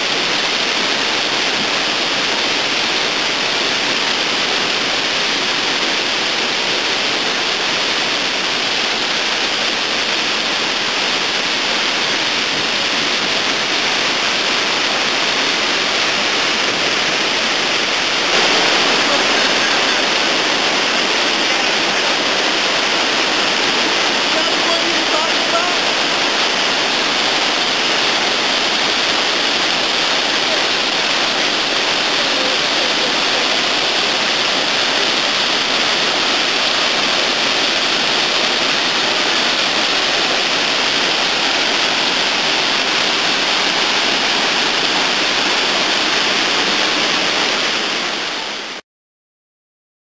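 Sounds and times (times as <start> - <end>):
whitewater rushing over boulders: 0.0 - 48.8.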